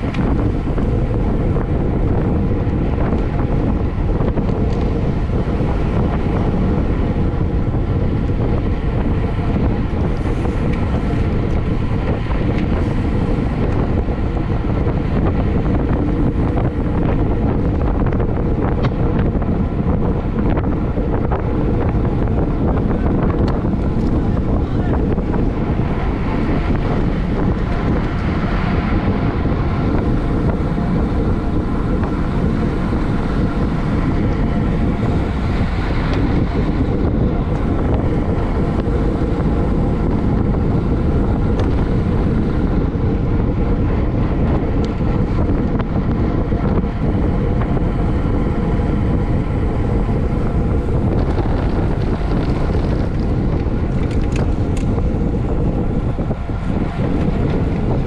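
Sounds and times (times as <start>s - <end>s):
faint bike hum: 0.0s - 58.0s
wind rushing over microphone: 0.0s - 58.0s.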